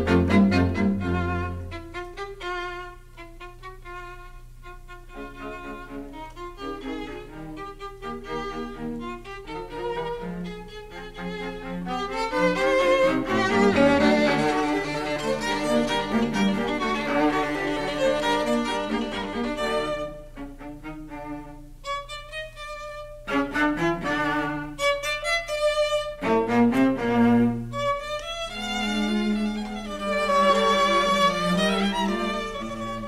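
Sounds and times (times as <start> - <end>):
lower accompaniment: 0.0 - 33.0
violin melody: 0.0 - 33.0.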